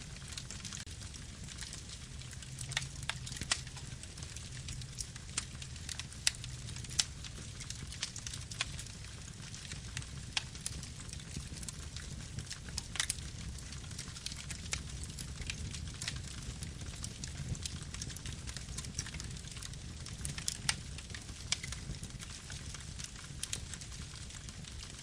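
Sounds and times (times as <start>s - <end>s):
campfire flames rumbling: 0.0s - 25.0s
wood crackling and popping: 0.0s - 25.0s.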